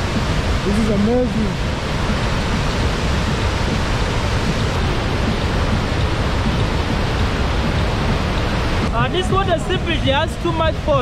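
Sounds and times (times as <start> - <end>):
roar of white water: 0.0 - 11.0.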